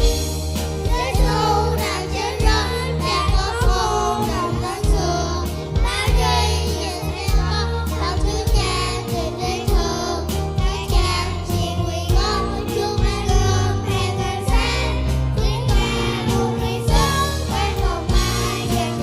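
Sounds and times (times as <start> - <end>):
accompaniment music with beat: 0.0 - 19.0
children singing: 0.7 - 19.0.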